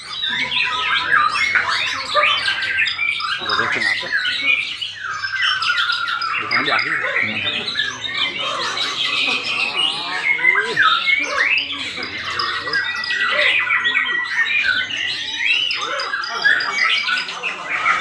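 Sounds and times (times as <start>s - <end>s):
birds squawking and chattering: 0.0s - 18.0s.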